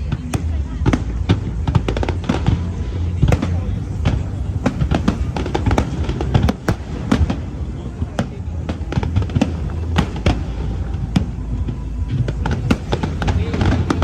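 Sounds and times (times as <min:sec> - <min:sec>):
firework cracks and pops: 0:00.0 - 0:14.0
low rumbling firework booms: 0:00.0 - 0:14.0.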